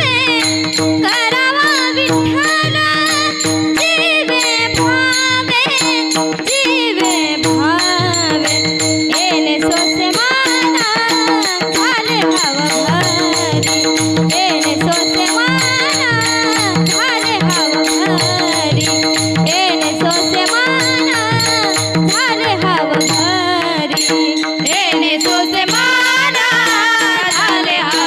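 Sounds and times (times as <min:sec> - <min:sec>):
small hand cymbals: 0:00.0 - 0:28.0
woman singing: 0:00.0 - 0:28.0.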